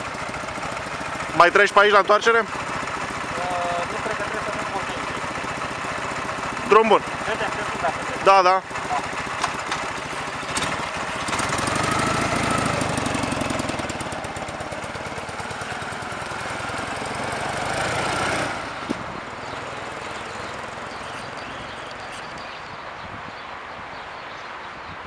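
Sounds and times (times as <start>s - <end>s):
motorcycle engine riding past: 0.0s - 22.1s.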